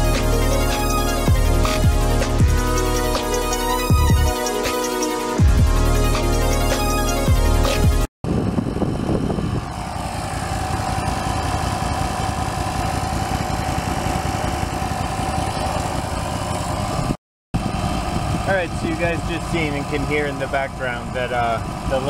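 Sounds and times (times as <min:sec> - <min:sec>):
tire compressor buzzing: 0:00.0 - 0:22.0.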